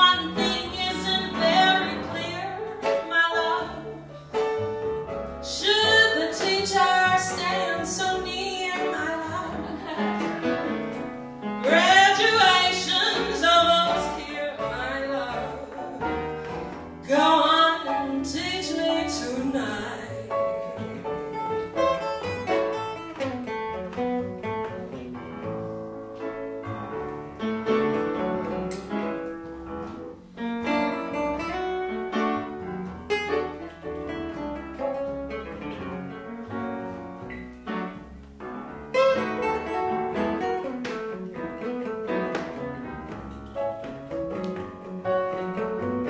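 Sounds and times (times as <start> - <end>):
jazz on piano bass and guitar: 0.0 - 46.0.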